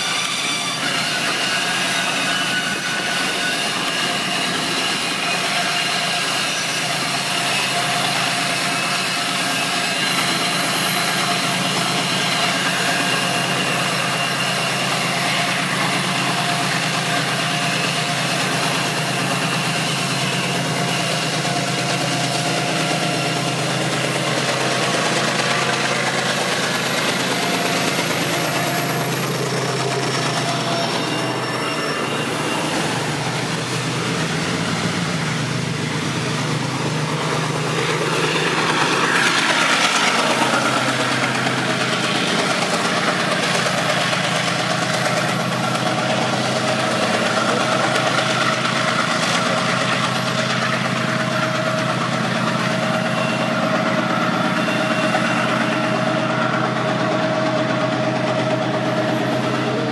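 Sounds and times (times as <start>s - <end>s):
locomotive engine running: 0.0s - 59.9s
wagons rolling on track: 0.0s - 59.9s.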